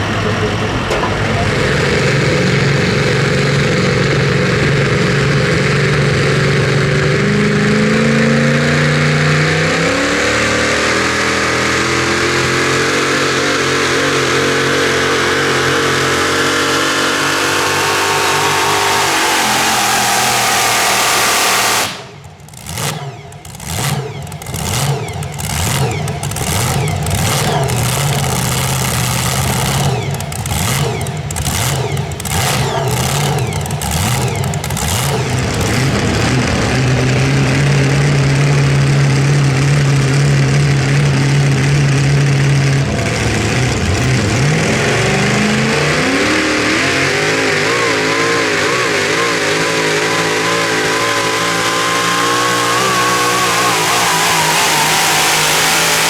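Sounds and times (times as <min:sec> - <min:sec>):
engine throttle blips: 0:00.0 - 0:56.0
truck engine revving hard: 0:00.0 - 0:56.0.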